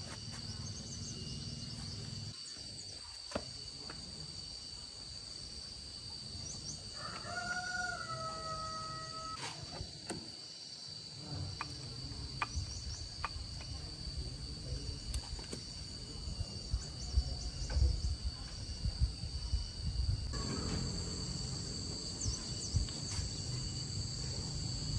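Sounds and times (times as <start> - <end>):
insects chirring: 0.0 - 24.9.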